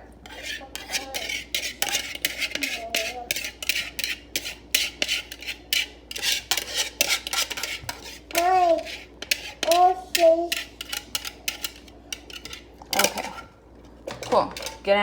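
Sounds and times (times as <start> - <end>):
utensil scraping a dish: 0.2 - 14.9.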